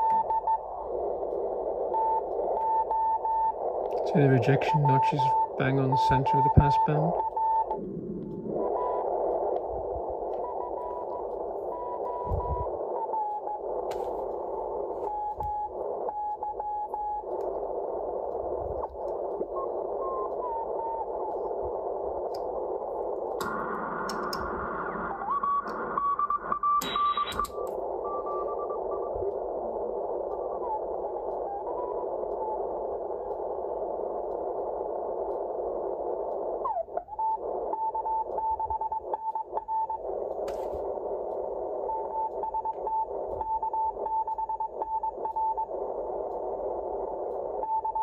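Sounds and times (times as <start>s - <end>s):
radio band noise hiss: 0.0s - 48.0s.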